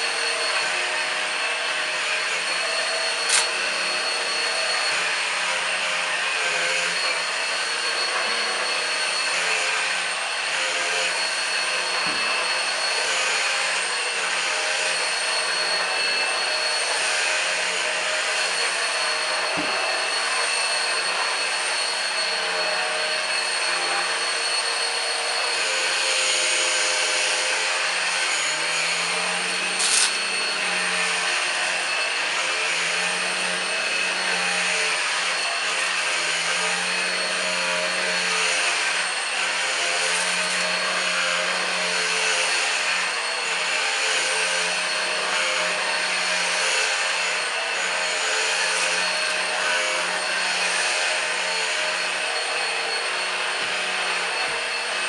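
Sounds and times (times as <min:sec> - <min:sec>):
stick vacuum motor whining: 0:00.0 - 0:55.0.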